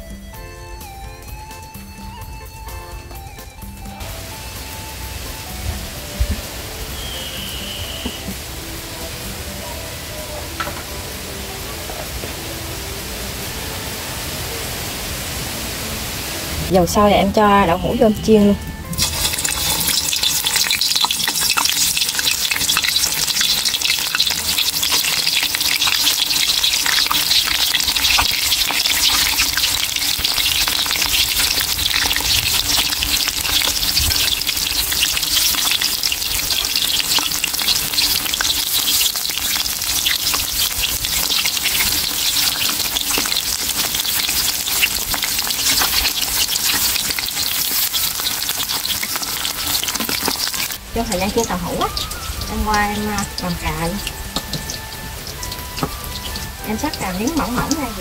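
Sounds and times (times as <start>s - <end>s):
food sizzling in hot oil: 2.7s - 58.0s.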